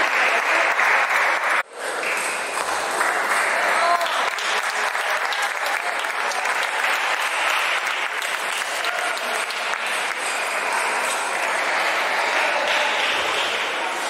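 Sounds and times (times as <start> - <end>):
faint murmur of voices: 1.6 - 14.0.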